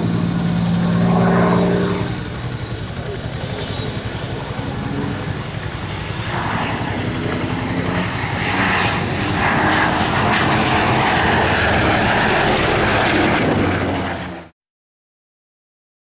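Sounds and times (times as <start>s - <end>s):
biplane radial engine flypast: 0.0s - 14.5s.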